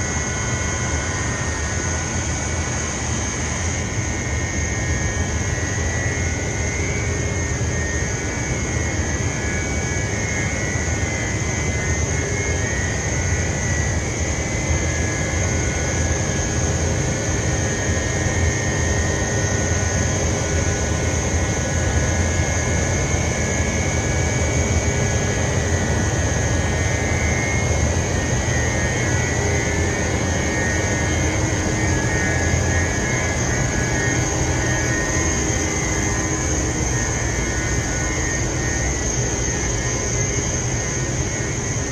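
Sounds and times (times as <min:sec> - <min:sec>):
high-pitched whine: 0:00.0 - 0:41.9.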